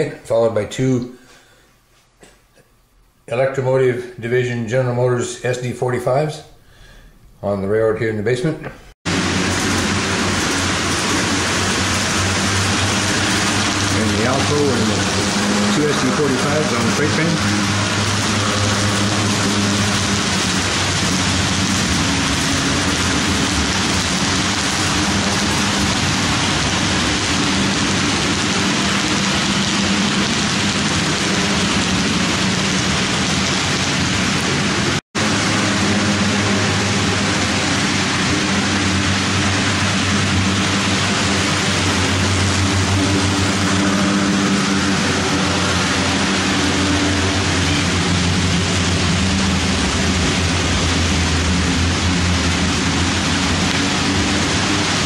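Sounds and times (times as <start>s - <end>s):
model train hum: 9.1s - 55.0s.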